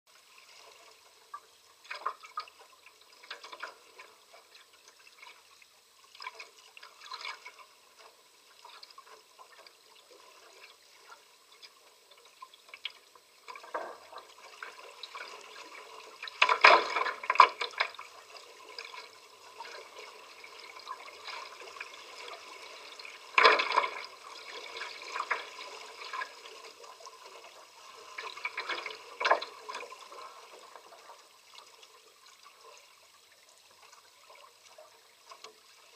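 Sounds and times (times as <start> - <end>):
water lapping against hull: 0.4 - 35.9.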